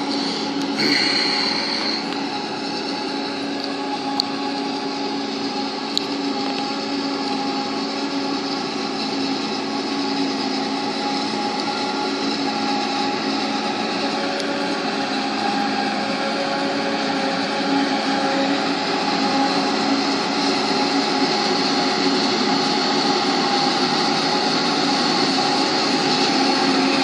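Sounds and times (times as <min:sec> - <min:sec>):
forage harvester machine drone: 0:00.0 - 0:27.0.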